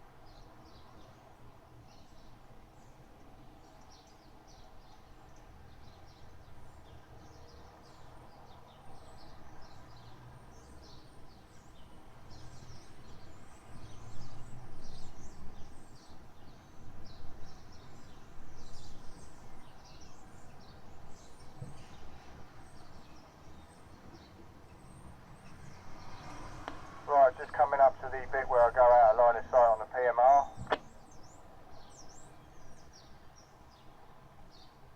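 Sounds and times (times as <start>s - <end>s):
small birds chirping: 1.9s - 34.8s.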